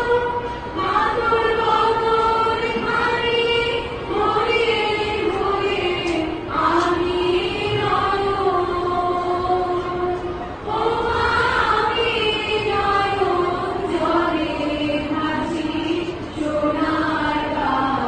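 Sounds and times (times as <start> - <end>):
girls singing in unison: 0.0 - 18.0.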